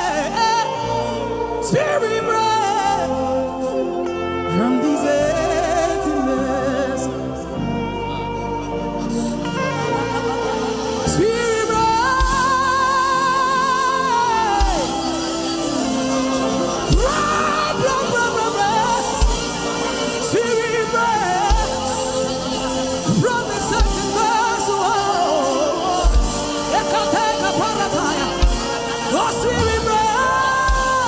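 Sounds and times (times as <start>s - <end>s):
person singing wordless lines: 0.0s - 31.0s.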